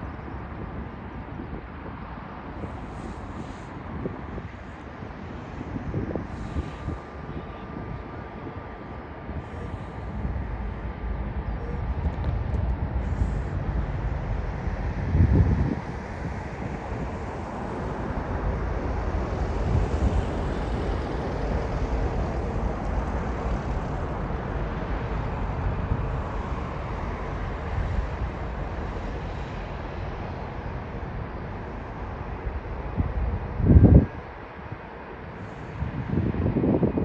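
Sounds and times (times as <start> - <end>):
jet engines rumbling: 0.0 - 37.0
wind buffeting microphone: 0.0 - 37.0.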